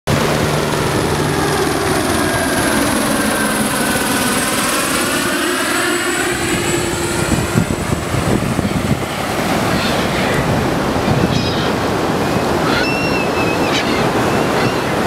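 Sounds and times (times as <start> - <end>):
helicopter passing overhead: 0.1 - 15.0.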